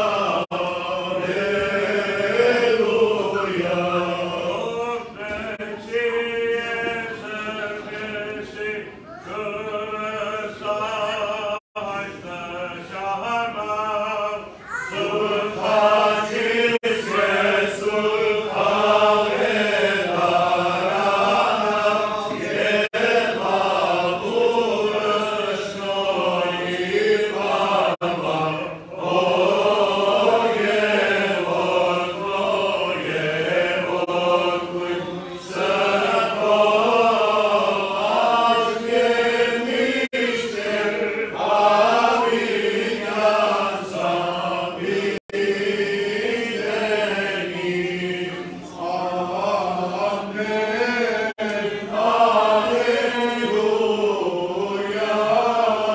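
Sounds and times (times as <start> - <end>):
men chanting a hymn: 0.0 - 55.9.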